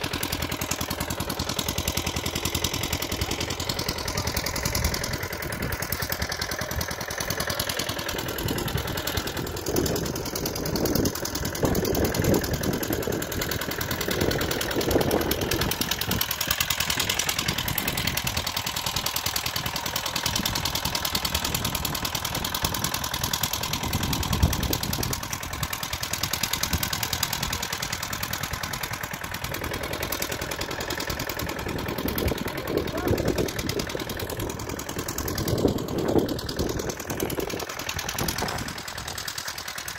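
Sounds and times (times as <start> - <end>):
small tractor engine chugging: 0.0 - 39.9.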